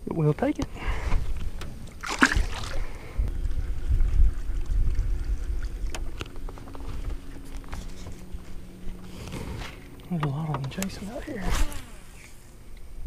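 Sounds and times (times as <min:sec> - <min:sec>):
boat low hum: 0:00.0 - 0:13.0
wind rumbling on microphone: 0:00.6 - 0:12.3.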